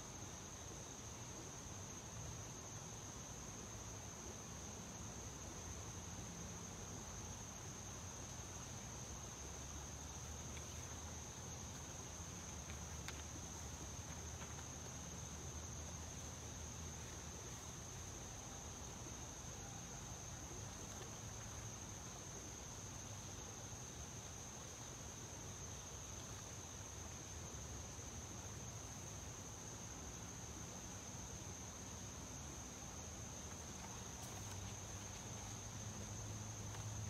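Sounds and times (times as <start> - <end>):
soft outdoor background hiss: 0.0 - 37.0.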